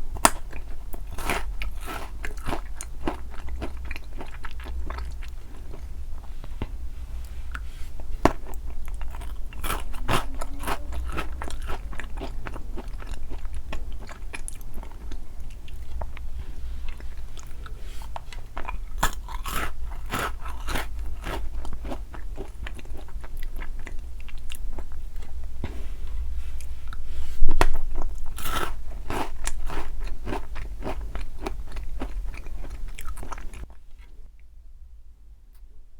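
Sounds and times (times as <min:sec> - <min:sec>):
chewing and crunching sweets: 0:00.0 - 0:34.5
steady low hum: 0:00.0 - 0:35.9.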